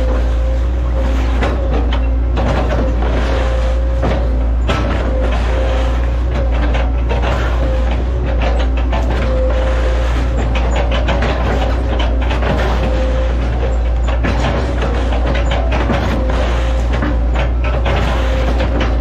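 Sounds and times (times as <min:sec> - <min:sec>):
knocks and rattles: 0:00.0 - 0:19.0
low diesel engine drone: 0:00.0 - 0:19.0
wavering hydraulic whine: 0:00.0 - 0:19.0.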